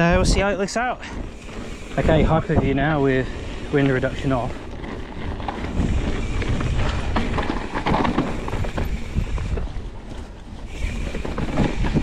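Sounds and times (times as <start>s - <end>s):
mountain bike clattering on trail: 0.0s - 12.0s
wind buffeting microphone: 0.0s - 12.0s.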